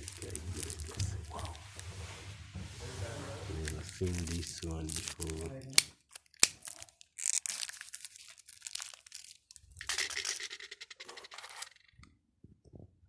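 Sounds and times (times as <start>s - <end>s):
crinkly packaging rustling: 0.0s - 2.1s, 3.5s - 11.9s.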